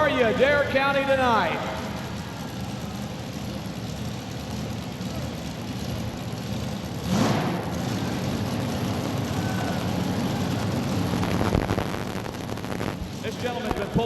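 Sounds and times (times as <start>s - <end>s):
tractor engine revving: 0.0s - 14.0s.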